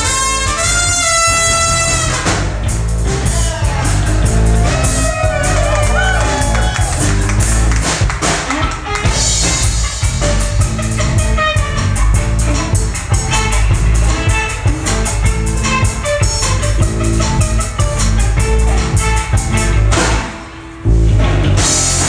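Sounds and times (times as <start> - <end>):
deep bass line: 0.0 - 22.0
drum kit beat: 0.0 - 22.0
electric guitars: 0.0 - 22.0.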